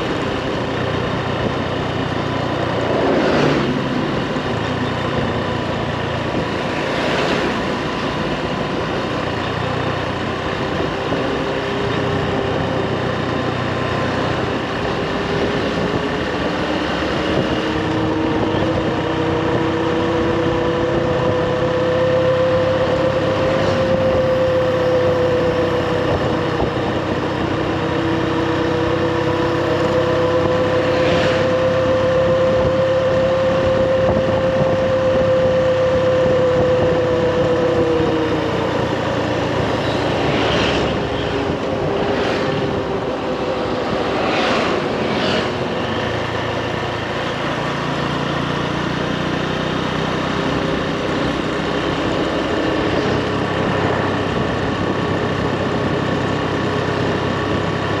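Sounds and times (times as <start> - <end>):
motorbike engine running: 0.0 - 58.0.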